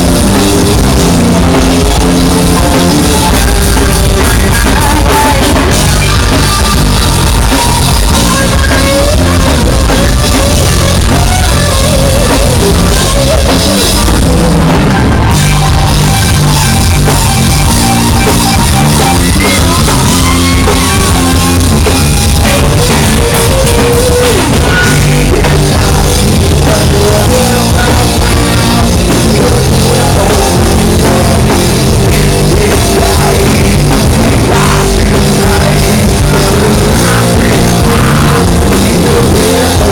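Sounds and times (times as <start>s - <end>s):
drum kit: 0.0s - 39.9s
live rock band playing: 0.0s - 39.9s
person singing: 0.0s - 39.9s.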